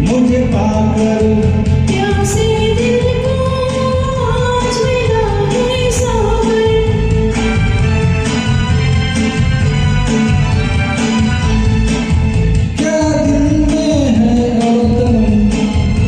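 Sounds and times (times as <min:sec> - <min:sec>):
person singing karaoke: 0:00.0 - 0:16.0
recorded backing track: 0:00.0 - 0:16.0.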